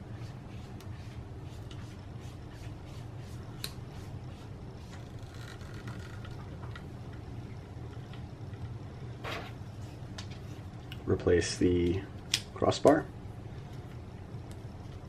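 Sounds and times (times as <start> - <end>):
low hum: 0.0 - 12.5.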